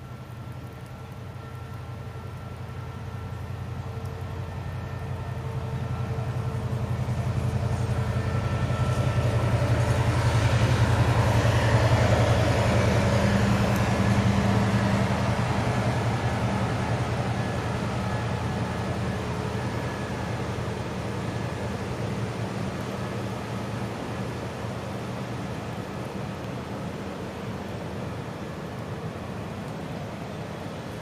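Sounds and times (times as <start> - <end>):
diesel train passing: 0.0 - 31.0
train wheel noise: 0.0 - 31.0.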